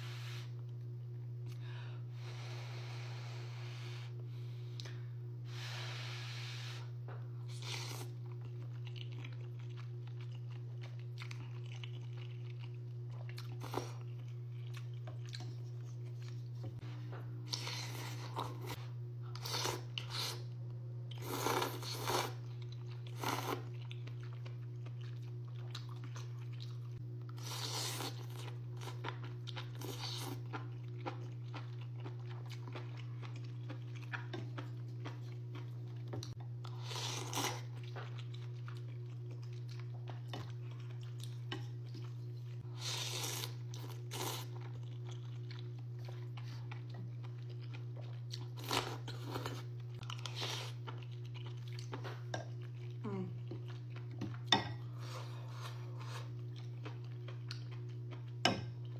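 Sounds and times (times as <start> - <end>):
low electrical hum: 0.0 - 58.9
person chewing crunchy food: 7.4 - 16.8, 17.4 - 58.9.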